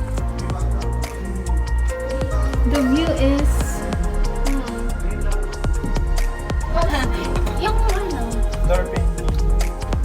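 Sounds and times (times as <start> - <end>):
ambient electronic music: 0.0 - 10.0.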